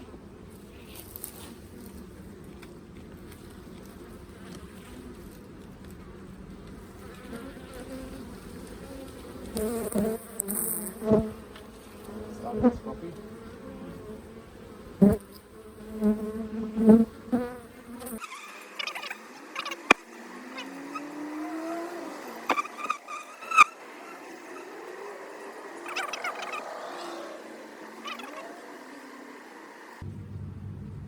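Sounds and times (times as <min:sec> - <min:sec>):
bee buzzing close by: 0:00.0 - 0:30.0
honey bees buzzing: 0:00.0 - 0:30.0.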